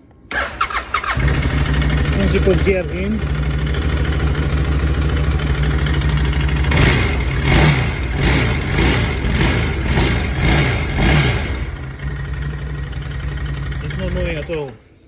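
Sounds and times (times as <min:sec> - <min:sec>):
engine idling and revving: 0:00.3 - 0:14.8.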